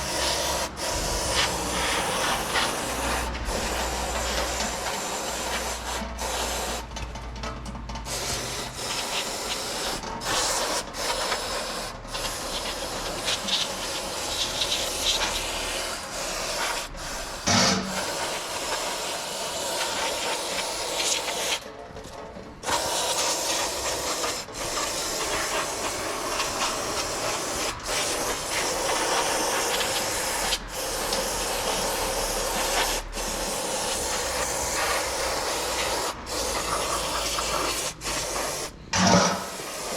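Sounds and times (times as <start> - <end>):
aerosol spray hissing: 0.0 - 6.9, 8.0 - 21.6, 22.6 - 39.9.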